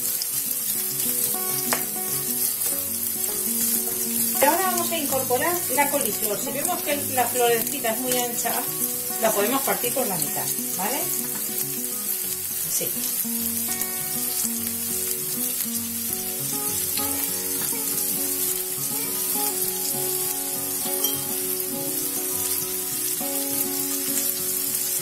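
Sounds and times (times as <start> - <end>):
onion sizzling in oil: 0.0 - 25.0.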